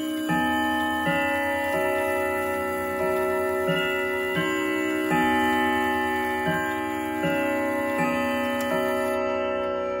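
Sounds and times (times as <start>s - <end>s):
wall clock chime melody: 0.0s - 10.0s.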